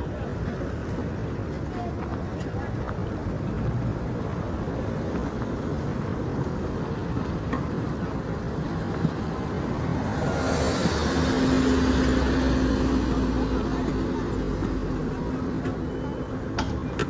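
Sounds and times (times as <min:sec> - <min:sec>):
road traffic rumble: 0:00.0 - 0:17.0
vehicle engine drone approaching: 0:02.6 - 0:17.0.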